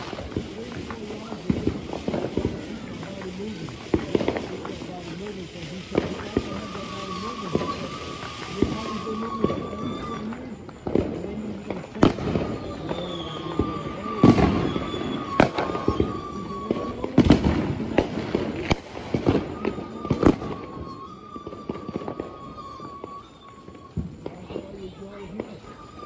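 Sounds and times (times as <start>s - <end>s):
fireworks bangs: 0.0s - 26.0s
fireworks pops and crackles: 0.0s - 26.0s.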